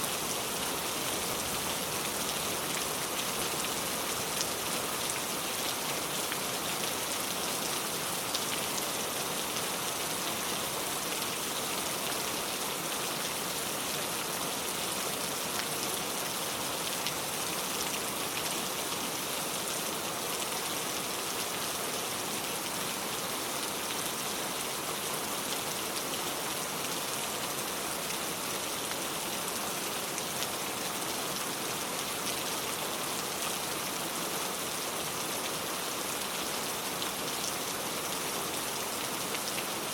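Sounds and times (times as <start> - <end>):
rain falling on a car: 0.0 - 39.9.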